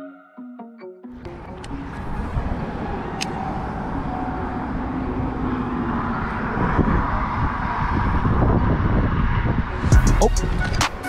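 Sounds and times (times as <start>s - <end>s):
vehicle rushing past: 1.2s - 11.0s.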